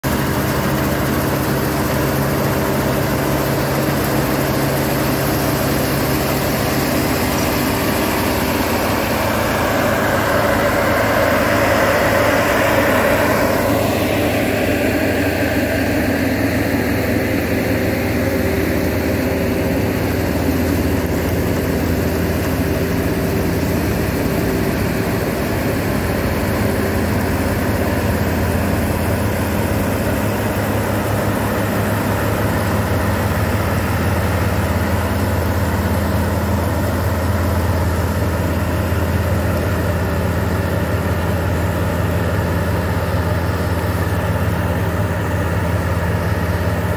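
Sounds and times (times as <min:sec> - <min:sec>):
combine harvesters running: 0:00.0 - 0:46.9.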